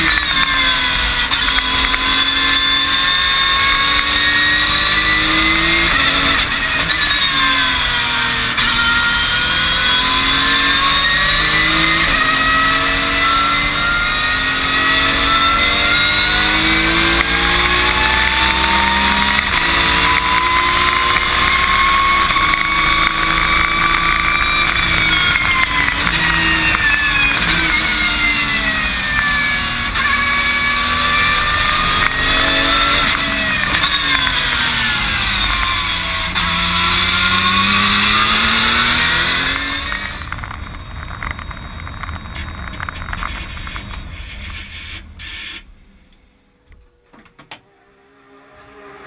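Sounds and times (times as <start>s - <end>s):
race car engine at speed: 0.0s - 45.8s, 46.5s - 49.0s.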